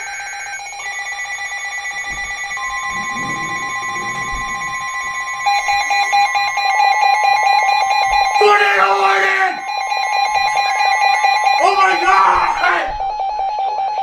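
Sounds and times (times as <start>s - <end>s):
electronic alarm tones: 0.0s - 14.0s
rapidly pulsing beep: 0.0s - 14.0s.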